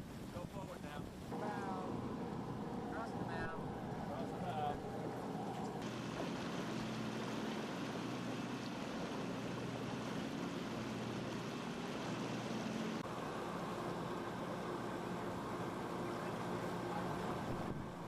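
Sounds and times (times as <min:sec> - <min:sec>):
ship engine running: 0:00.0 - 0:18.0.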